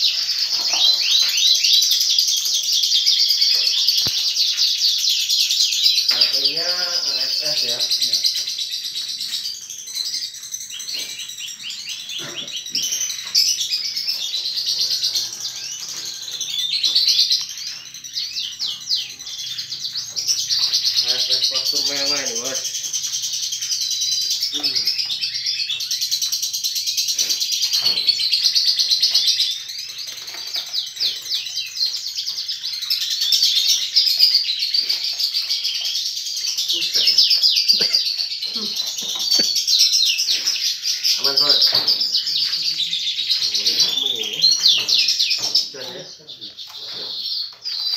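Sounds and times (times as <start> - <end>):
canaries singing and chirping: 0.0 - 47.9.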